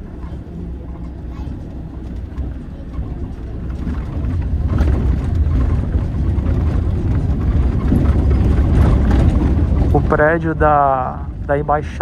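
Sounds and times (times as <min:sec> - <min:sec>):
bus cabin rumble: 0:00.0 - 0:12.0.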